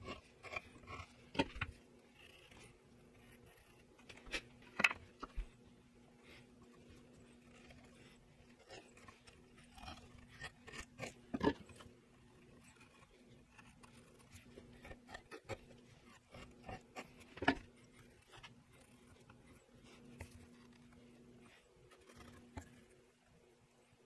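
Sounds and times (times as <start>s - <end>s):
pencil scratching on wood: 0.0s - 23.2s.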